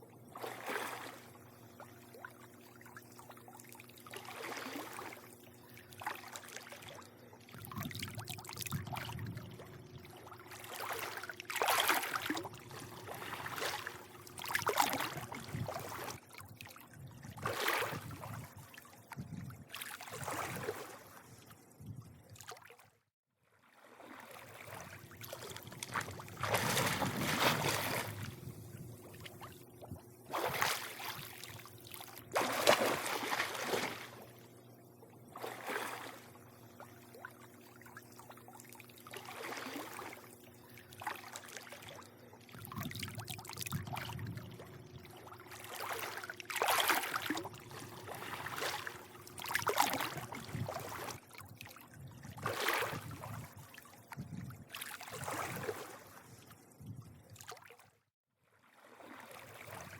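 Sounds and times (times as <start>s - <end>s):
faint steady hum: 0.0s - 22.6s, 23.8s - 57.4s
pool water lapping and splashing: 0.0s - 59.9s.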